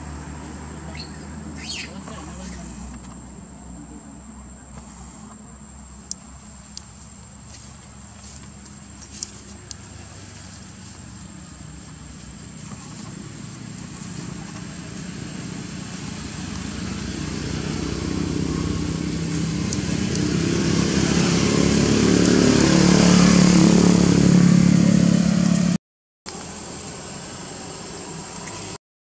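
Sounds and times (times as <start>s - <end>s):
vehicle engine approaching: 0.0s - 28.8s.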